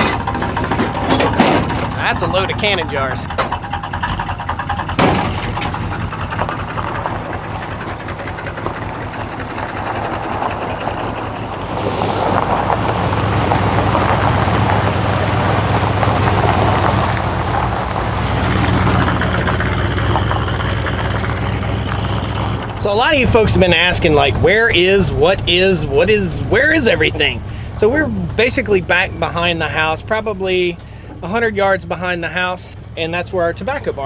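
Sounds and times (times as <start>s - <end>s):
pickup truck engine: 0.0s - 34.0s
tyres crunching on gravel: 0.0s - 34.0s.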